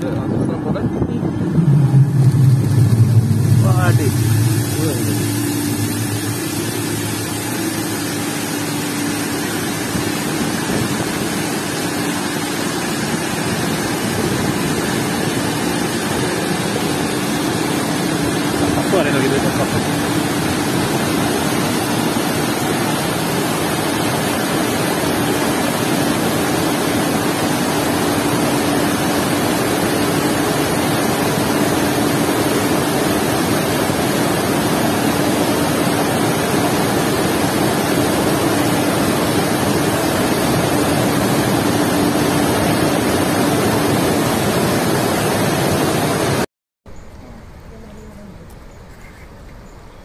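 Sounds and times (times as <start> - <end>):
water rushing down spillway: 1.6 - 46.5.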